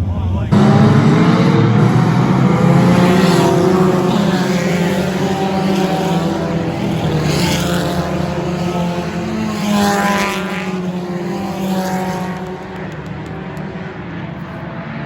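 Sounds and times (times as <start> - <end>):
race car engines droning: 0.0 - 15.0
race cars passing by: 0.0 - 15.0.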